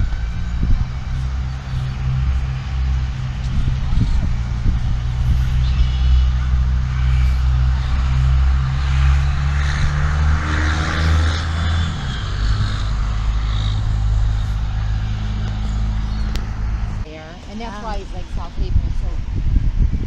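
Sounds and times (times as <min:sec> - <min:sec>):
car engine from inside cabin: 0:00.0 - 0:17.1.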